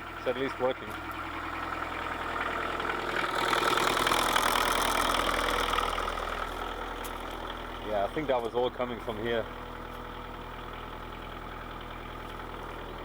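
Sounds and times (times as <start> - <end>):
excavator diesel engine: 0.0 - 13.0.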